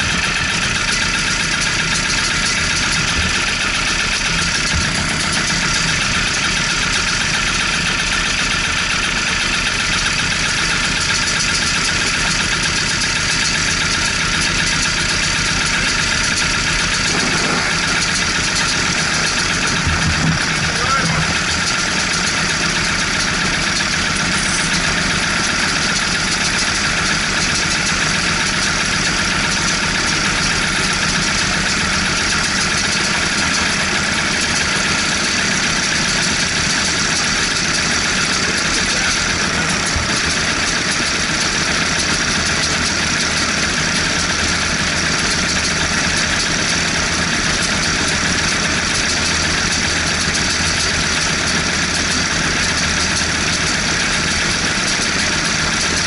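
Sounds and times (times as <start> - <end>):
go-kart engines idling: 0.0 - 56.0.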